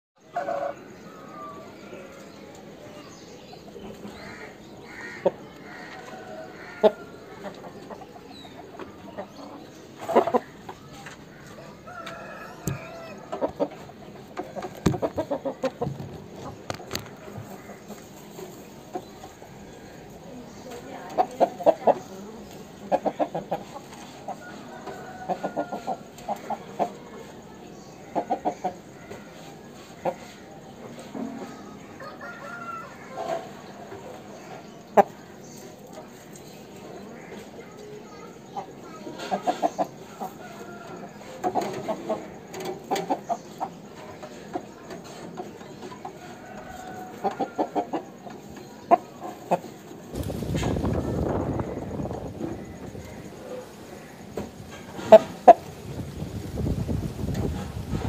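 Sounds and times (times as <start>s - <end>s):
birds calling: 0.2s - 58.0s
chicken clucking: 0.2s - 58.0s.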